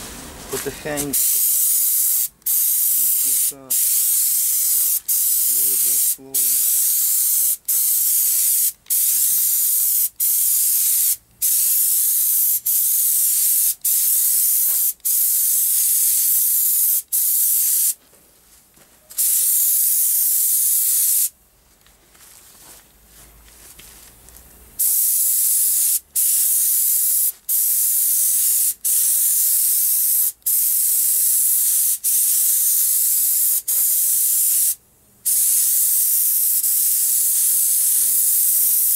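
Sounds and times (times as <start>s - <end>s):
spray gun hissing: 0.6s - 18.0s, 19.2s - 21.3s, 24.8s - 38.9s.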